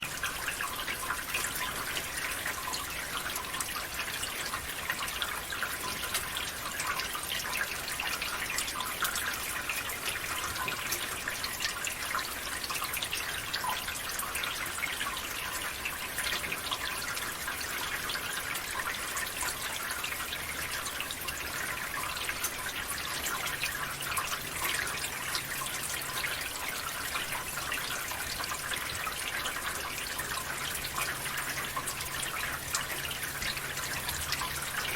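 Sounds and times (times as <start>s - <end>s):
water trickling through gutter: 0.0s - 34.9s.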